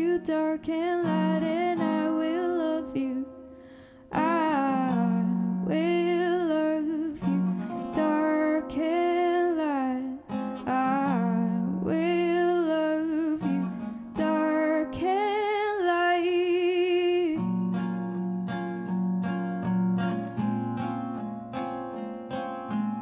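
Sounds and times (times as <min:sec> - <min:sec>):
classical guitar: 0:00.0 - 0:23.0.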